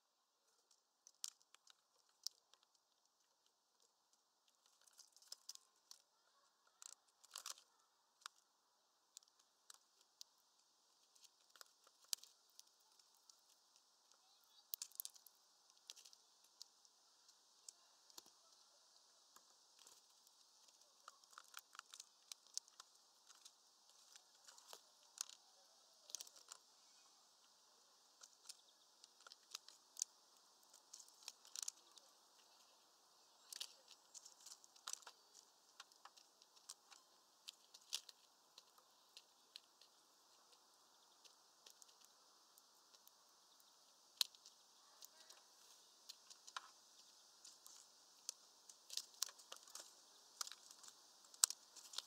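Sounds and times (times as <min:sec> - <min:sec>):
birds pecking at feeder: 0:00.4 - 0:52.0.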